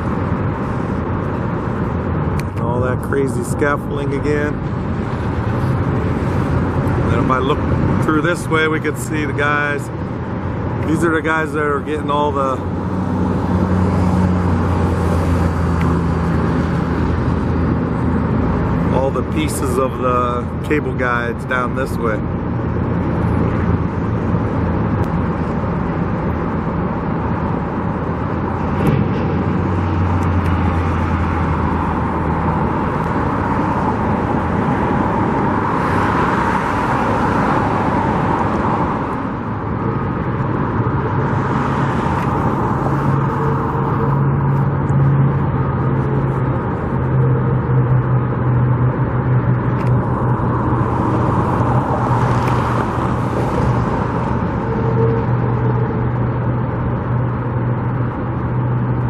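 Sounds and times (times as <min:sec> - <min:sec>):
construction site vehicle noise: 0:00.0 - 0:59.0
low engine hum: 0:00.0 - 0:59.0
vehicles passing: 0:00.0 - 0:59.0.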